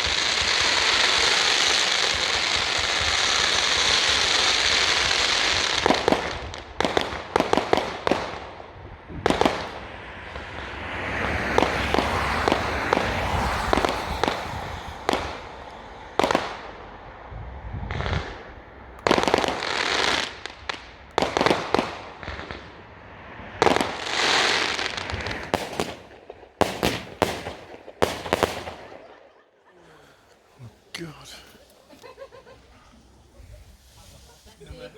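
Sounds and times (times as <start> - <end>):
fireworks bangs: 0.0 - 34.9
fireworks noisy bursts: 0.0 - 34.9.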